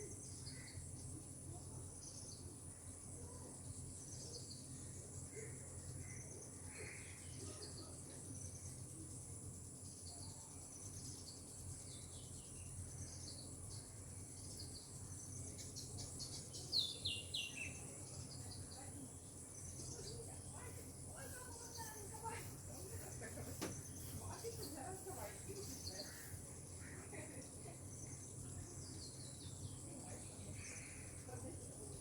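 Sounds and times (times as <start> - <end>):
birds chirping: 3.6 - 32.0.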